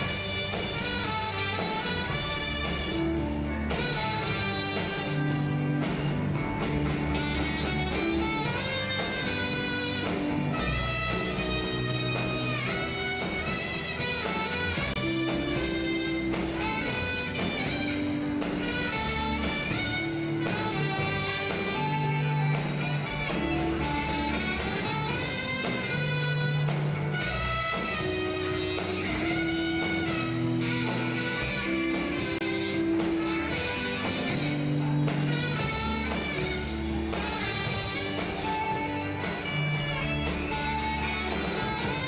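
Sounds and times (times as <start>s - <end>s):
drum kit steady beat: 0.0s - 42.0s
saxophones and trumpets: 0.0s - 42.0s.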